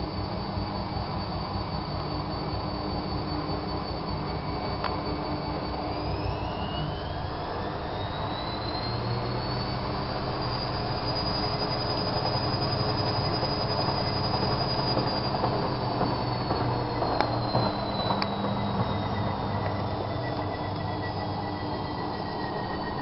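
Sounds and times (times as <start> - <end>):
washing machine motor whine: 0.0 - 23.0.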